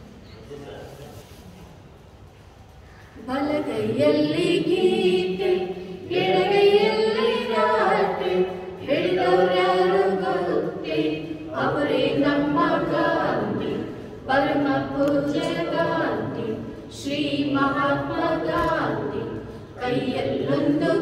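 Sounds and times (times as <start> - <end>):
group of voices singing: 3.2 - 21.0.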